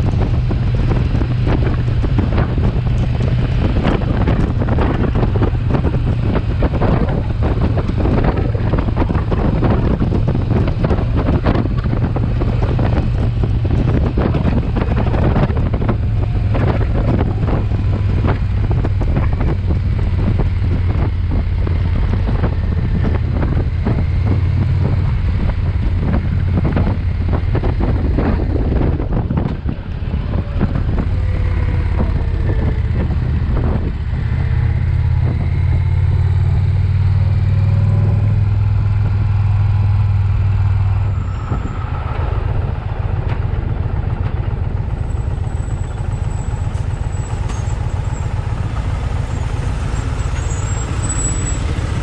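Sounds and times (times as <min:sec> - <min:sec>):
motorcycle engine droning: 0:00.0 - 0:52.0.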